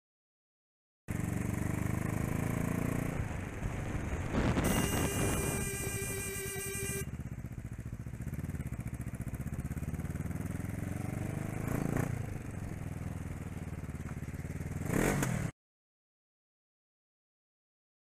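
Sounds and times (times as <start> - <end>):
motorcycle engine accelerating: 1.1 - 15.5.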